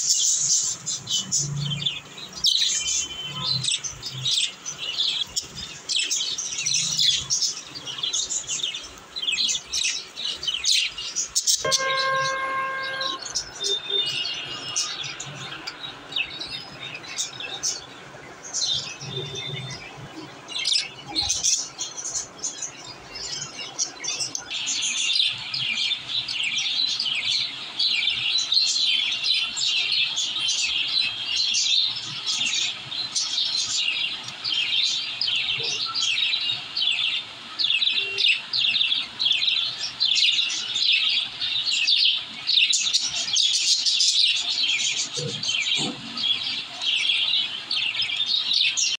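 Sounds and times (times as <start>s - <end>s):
budgerigars chirping: 0.0s - 19.9s, 20.5s - 48.9s.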